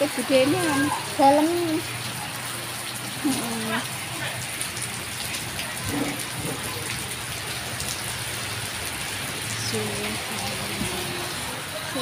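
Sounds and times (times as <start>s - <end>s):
heavy rain on wet pavement: 0.0s - 12.0s.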